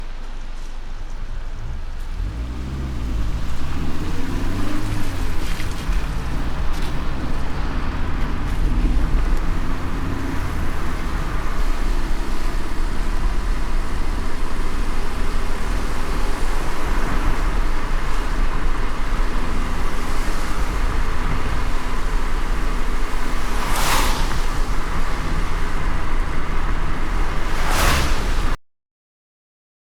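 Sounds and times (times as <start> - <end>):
moving car rumble: 0.0 - 28.6
rain hissing on a car: 0.0 - 28.6.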